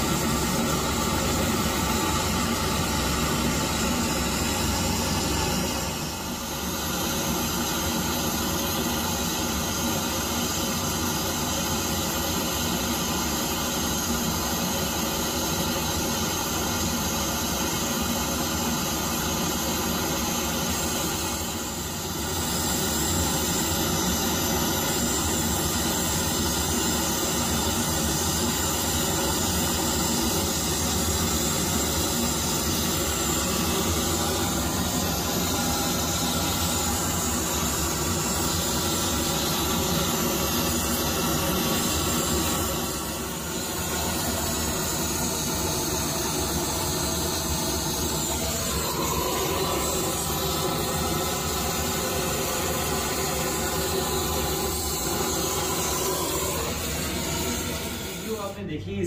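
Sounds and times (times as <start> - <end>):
hiss of forced air and flame: 0.0 - 58.7.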